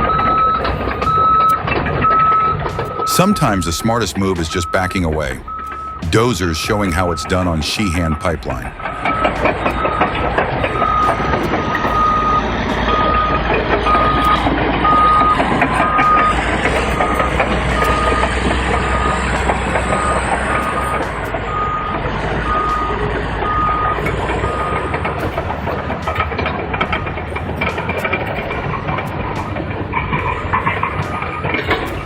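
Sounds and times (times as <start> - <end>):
bulldozer working: 0.0 - 32.0
reversing alarm beeping: 0.0 - 32.0.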